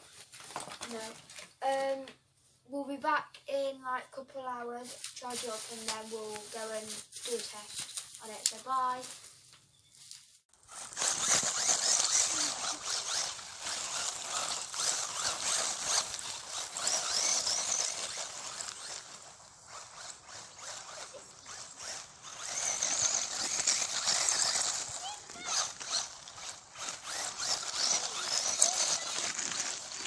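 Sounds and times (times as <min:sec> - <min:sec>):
rc car motor and tyres on gravel: 0:00.0 - 0:02.0, 0:04.8 - 0:09.2, 0:10.5 - 0:30.0.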